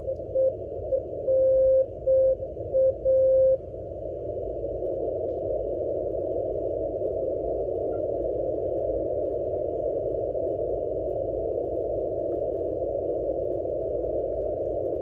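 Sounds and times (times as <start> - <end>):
radio receiver static hiss: 0.0 - 15.0.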